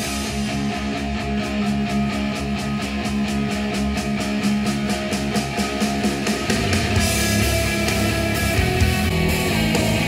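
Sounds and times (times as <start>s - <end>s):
rock music over speakers: 0.0s - 10.0s.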